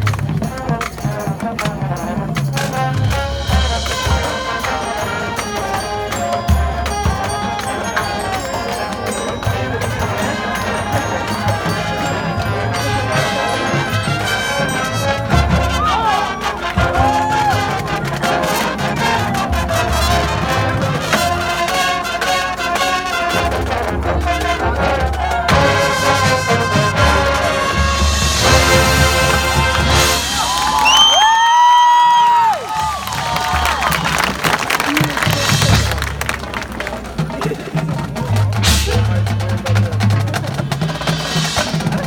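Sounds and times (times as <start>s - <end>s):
marching band playing: 0.0s - 42.0s.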